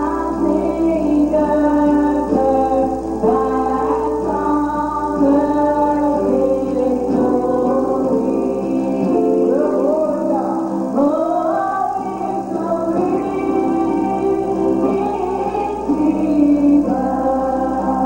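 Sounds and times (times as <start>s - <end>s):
gospel choir singing: 0.0s - 18.0s
instrumental accompaniment: 0.0s - 18.0s.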